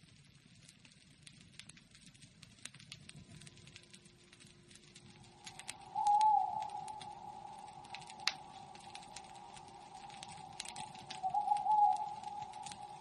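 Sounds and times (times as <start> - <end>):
sharp clicks and crackles: 0.0 - 13.0.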